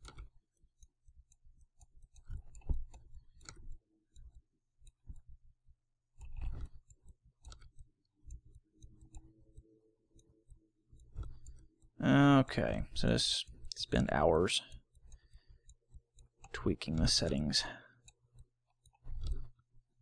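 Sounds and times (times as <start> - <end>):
computer mouse clicks: 0.0 - 5.4, 6.1 - 19.7.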